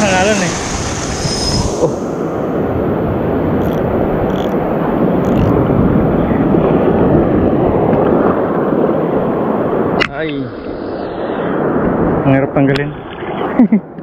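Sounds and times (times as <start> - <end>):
surf washing and churning: 0.0 - 14.0.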